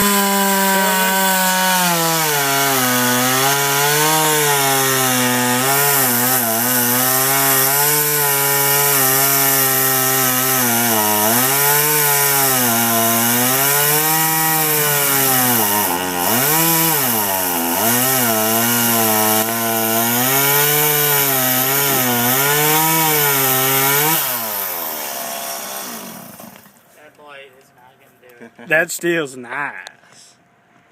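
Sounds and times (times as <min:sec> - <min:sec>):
chainsaw cutting wood: 0:00.0 - 0:26.8.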